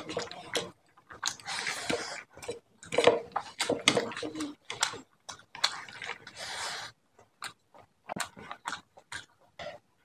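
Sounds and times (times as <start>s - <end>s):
wet chewing and mouth smacking: 0.0s - 10.0s.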